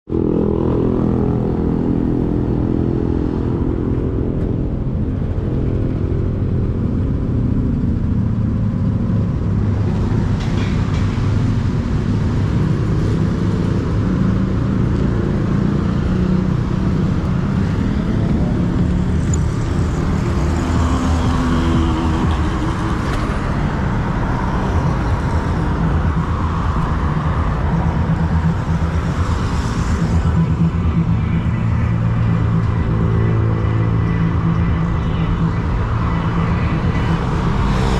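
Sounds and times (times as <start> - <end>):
road and traffic noise: 0.0 - 37.9.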